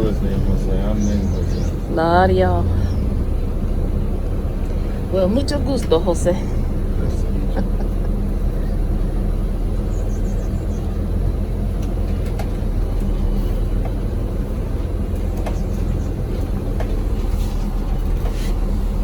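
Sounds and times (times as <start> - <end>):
bus engine drone: 0.0 - 19.0
faint rattles and ticks: 0.0 - 19.0.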